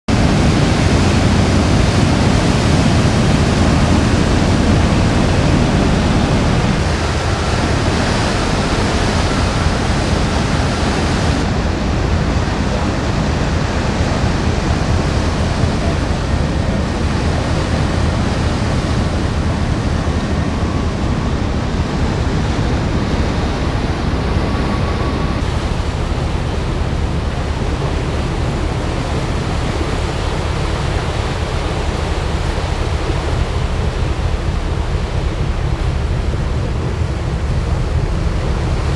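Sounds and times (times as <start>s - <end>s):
churning sea water: 0.1s - 38.9s
low ship engine hum: 0.1s - 38.9s.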